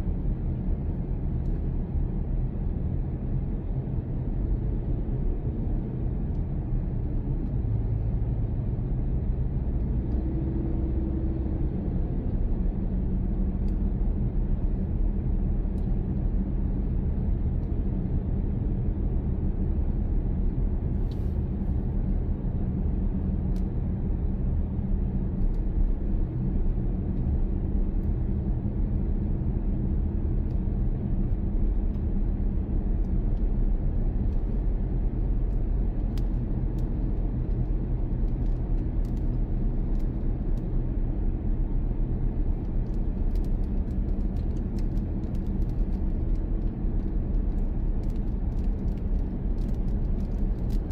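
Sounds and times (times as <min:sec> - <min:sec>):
car engine and tyres rumble: 0:00.0 - 0:50.9.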